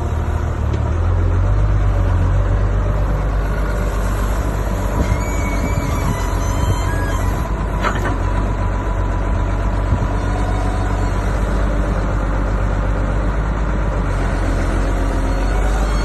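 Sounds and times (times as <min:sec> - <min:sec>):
construction machine engine humming: 0:00.0 - 0:16.0.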